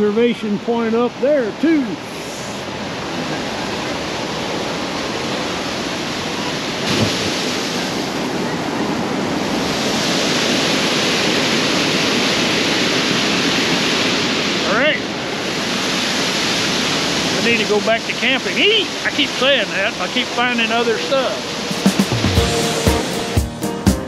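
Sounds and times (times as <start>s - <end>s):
waterfall rushing into pool: 0.0s - 23.3s.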